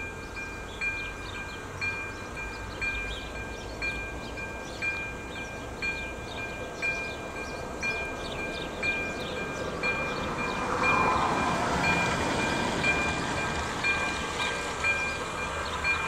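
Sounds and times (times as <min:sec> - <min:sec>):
approaching train rumble: 0:00.0 - 0:16.0.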